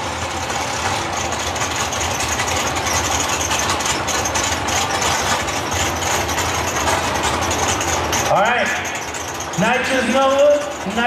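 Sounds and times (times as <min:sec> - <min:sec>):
drag car engines idling: 0:00.0 - 0:11.0.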